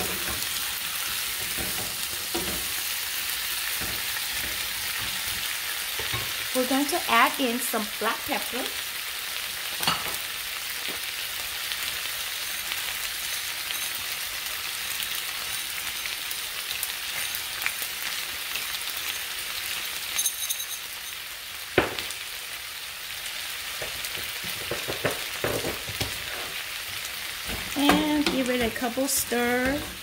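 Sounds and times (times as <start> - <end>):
vegetables sizzling in a frying pan: 0.0 - 30.0.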